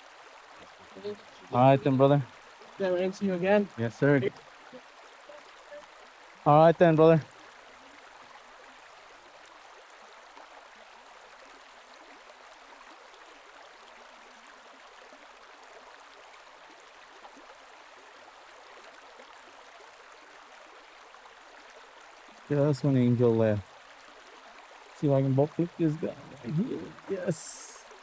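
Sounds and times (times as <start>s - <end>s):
flowing canal water: 0.0s - 28.0s.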